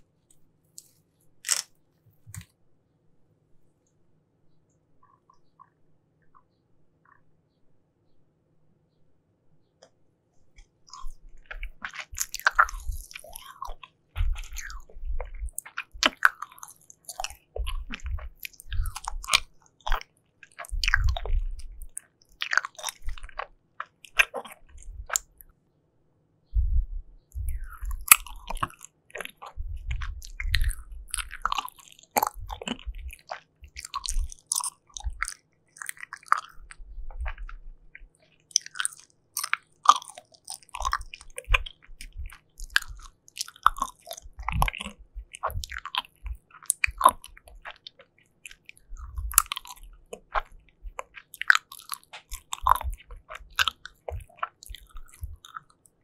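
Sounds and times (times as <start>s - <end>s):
chewing soft jelly: 0.0s - 2.6s, 4.7s - 7.3s, 9.8s - 25.6s, 26.5s - 56.0s.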